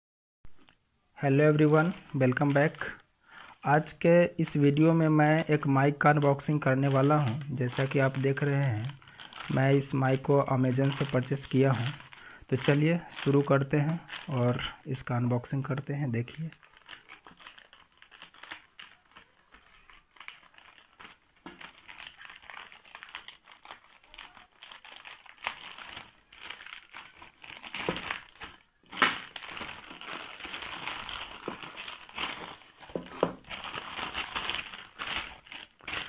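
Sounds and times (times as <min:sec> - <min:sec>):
plastic bag crinkling: 0:00.6 - 0:04.0, 0:05.2 - 0:36.0.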